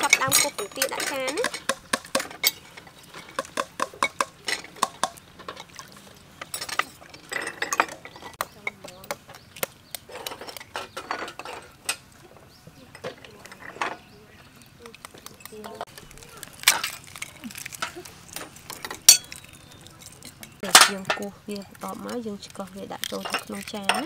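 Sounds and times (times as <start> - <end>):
eggs clinking against steel bowl: 0.0 - 12.1, 15.2 - 24.0.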